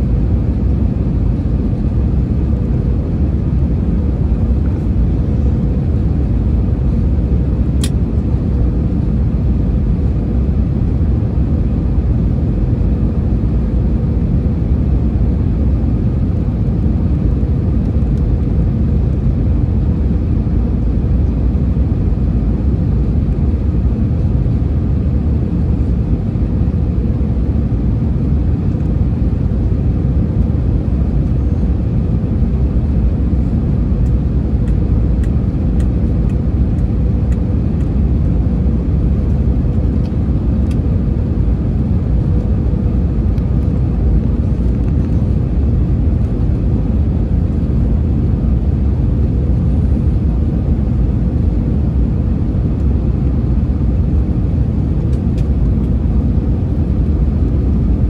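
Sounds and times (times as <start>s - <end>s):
airflow and engines rumbling: 0.0s - 58.0s
faint steady hum: 0.0s - 58.0s.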